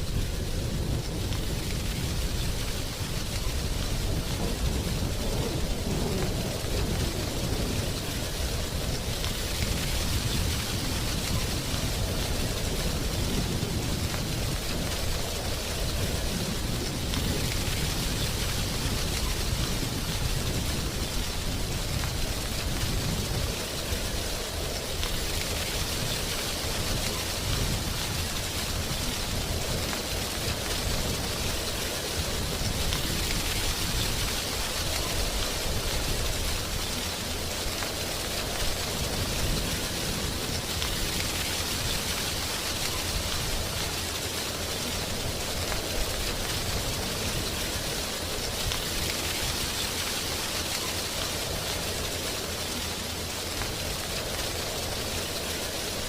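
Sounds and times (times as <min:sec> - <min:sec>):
wind rustling dry leaves: 0:00.0 - 0:56.0.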